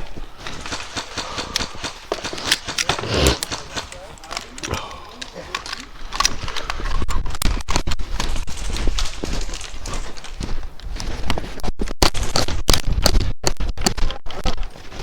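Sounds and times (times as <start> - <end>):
footsteps on snowy ground: 0.0 - 15.0.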